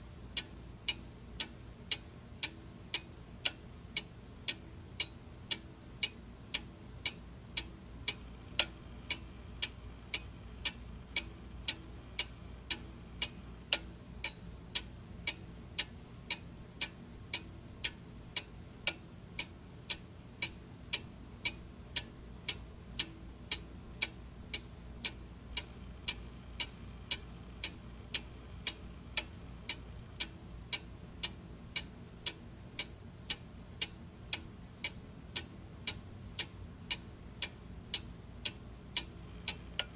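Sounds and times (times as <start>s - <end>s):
clock ticking: 0.3s - 39.9s.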